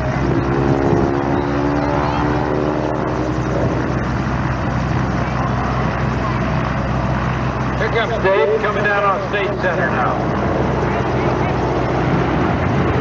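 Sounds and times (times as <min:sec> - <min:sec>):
propeller airplane engine droning: 0:00.0 - 0:13.0
steady low hum: 0:00.0 - 0:13.0.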